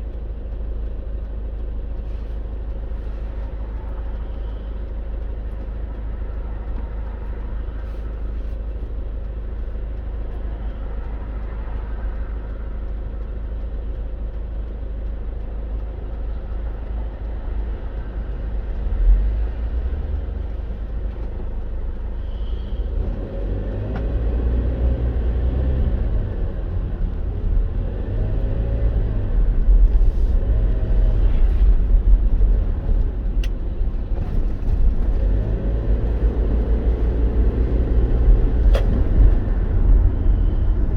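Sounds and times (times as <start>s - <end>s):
vehicle engine and tyre rumble: 0.0s - 40.9s.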